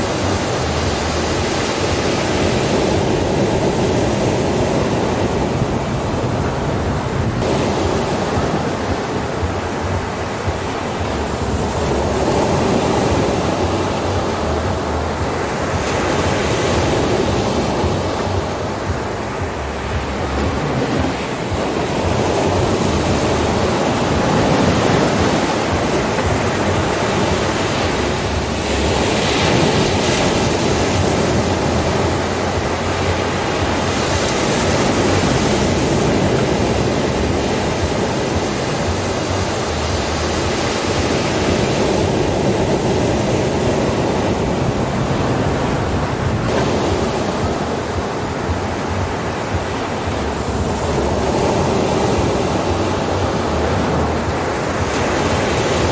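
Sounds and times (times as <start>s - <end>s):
waves breaking on beach: 0.0s - 55.9s.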